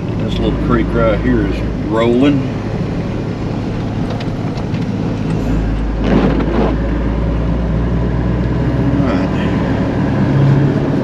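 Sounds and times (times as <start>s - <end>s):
vehicle driving on wet road: 0.0s - 11.0s.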